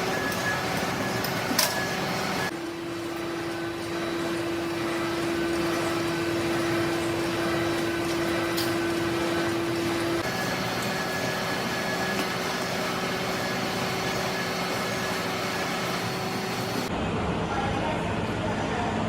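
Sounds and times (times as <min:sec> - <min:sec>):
machine tool humming: 0:00.0 - 0:16.9.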